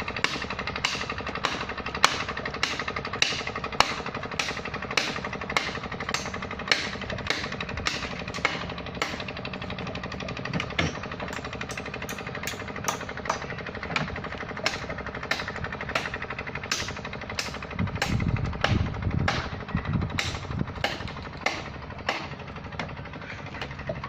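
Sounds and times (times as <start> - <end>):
machine engine rattling: 0.0 - 24.0.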